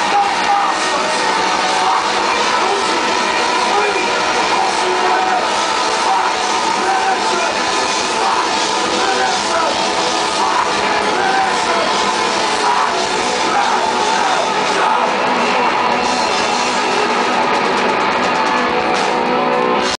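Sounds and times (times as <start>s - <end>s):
person singing: 0.0s - 17.5s
distorted electric guitars: 0.0s - 20.0s
drums: 0.0s - 20.0s.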